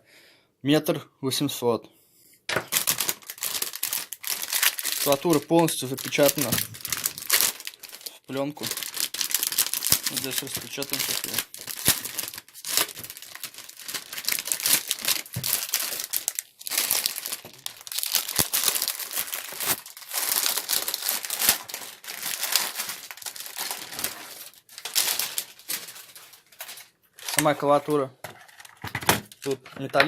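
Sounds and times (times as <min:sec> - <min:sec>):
plastic film crinkling and tearing: 0:02.5 - 0:28.0, 0:28.6 - 0:29.6.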